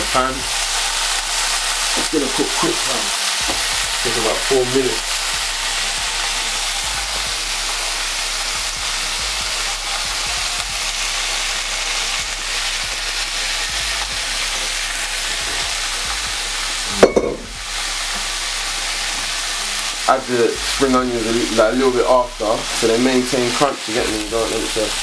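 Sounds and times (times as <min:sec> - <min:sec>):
oil sizzling in a pan: 0:00.0 - 0:25.0.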